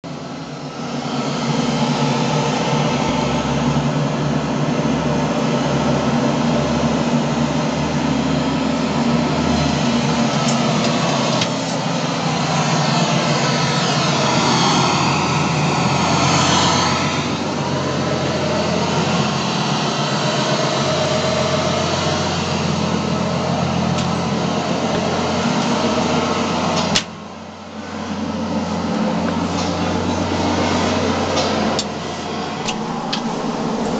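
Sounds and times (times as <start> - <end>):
engine room hum and hiss: 0.0 - 33.9.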